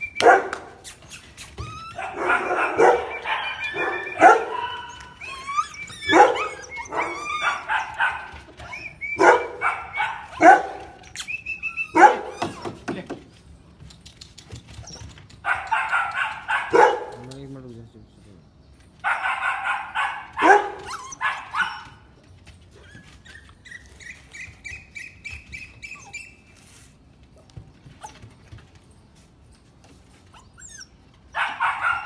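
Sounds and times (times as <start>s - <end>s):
puppy barking and whining: 0.0s - 12.9s, 14.7s - 17.2s, 19.0s - 26.7s, 27.4s - 28.5s, 30.1s - 32.0s.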